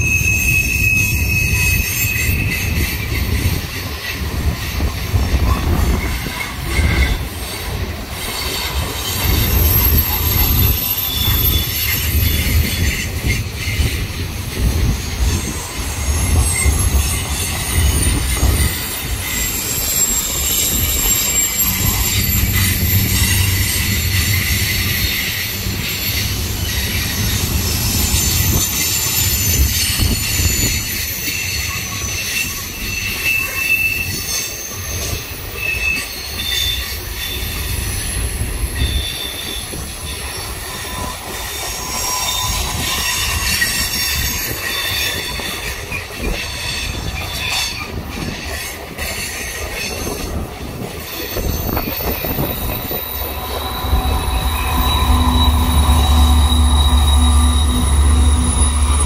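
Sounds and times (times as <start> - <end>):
low rumble of wheels on rail: 0.0 - 59.0
train wheels squealing: 0.0 - 59.0.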